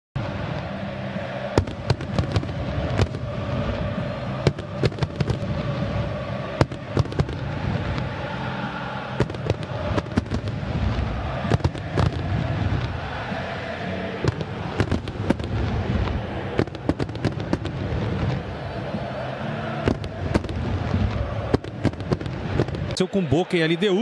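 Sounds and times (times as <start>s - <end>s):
stadium crowd din: 0.2s - 24.0s
firecrackers banging: 1.4s - 13.4s, 14.1s - 18.8s, 19.7s - 23.0s.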